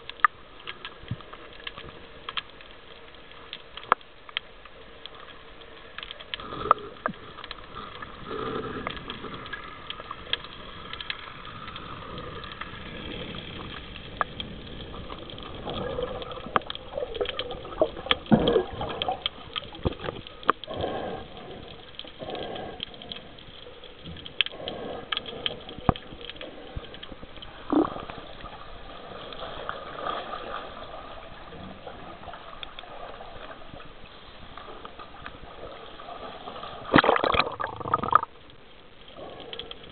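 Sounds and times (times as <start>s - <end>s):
underwater gurgling bubbles: 0.0s - 39.9s.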